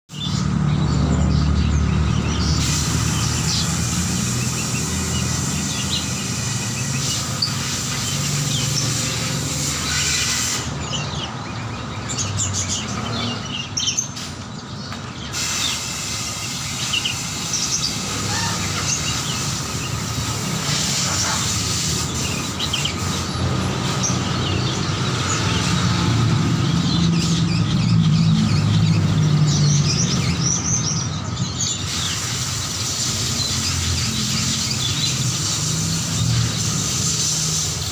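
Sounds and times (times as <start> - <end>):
caged songbirds chirping: 0.0 - 37.9.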